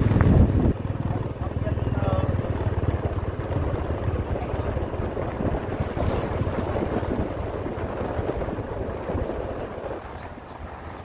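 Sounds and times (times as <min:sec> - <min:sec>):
diesel truck engine running: 0:00.0 - 0:11.0
wind rumbling on microphone: 0:00.0 - 0:11.0.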